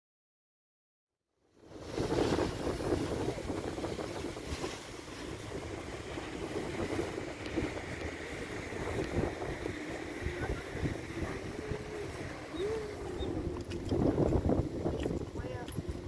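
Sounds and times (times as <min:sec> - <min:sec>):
wind buffeting microphone: 0:01.6 - 0:16.0.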